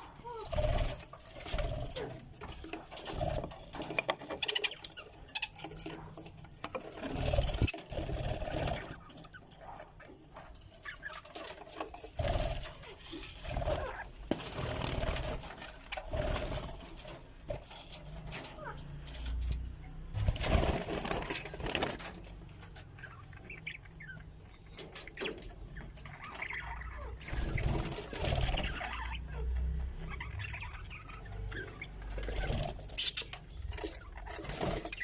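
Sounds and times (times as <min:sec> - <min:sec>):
budgerigars chattering and chirping: 0:00.0 - 0:35.0.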